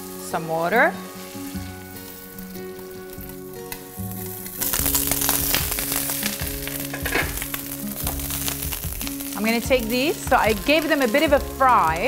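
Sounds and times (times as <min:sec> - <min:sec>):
food sizzling in hot pan: 0:00.0 - 0:12.0
light background music: 0:00.0 - 0:12.0.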